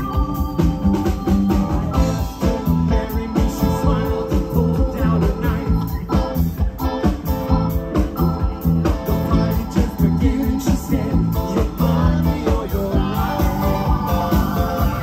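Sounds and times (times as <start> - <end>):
rock band playing: 0.0 - 15.0
steady drum beat: 0.0 - 15.0.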